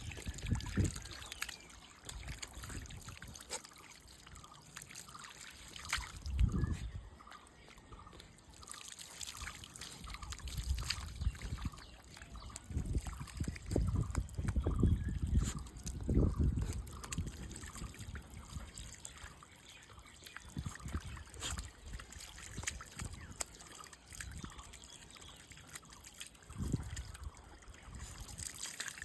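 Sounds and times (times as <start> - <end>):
water trickling and splashing: 0.0 - 29.0.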